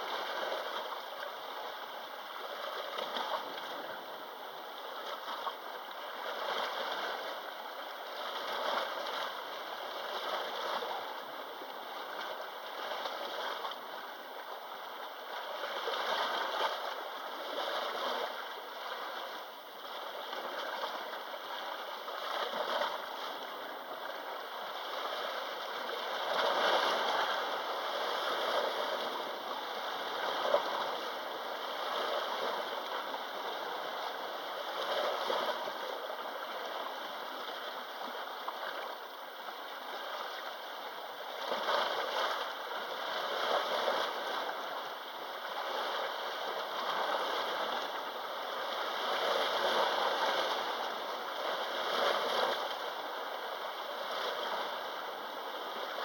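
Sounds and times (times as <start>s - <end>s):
small waves lapping shore: 0.0s - 56.0s.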